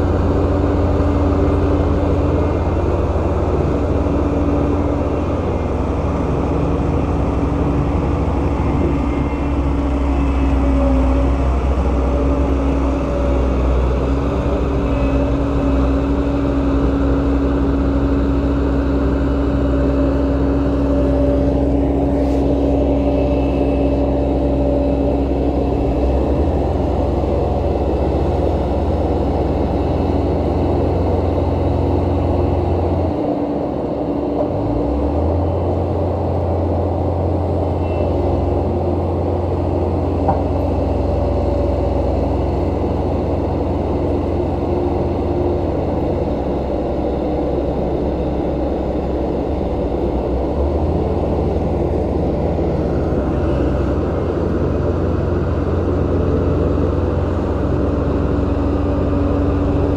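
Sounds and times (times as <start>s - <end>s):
heavy machinery diesel engine: 0.0s - 59.9s.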